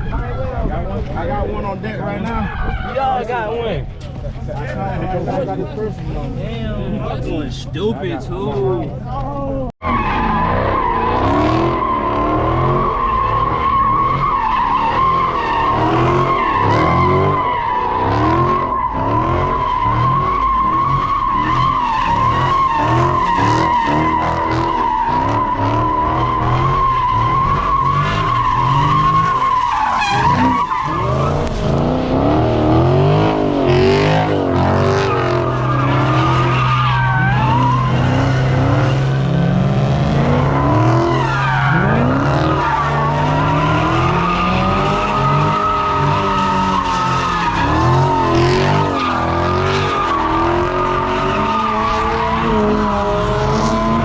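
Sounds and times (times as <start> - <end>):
car engine revving: 0.0 - 54.0
tyres squealing: 9.9 - 39.6, 40.2 - 54.0.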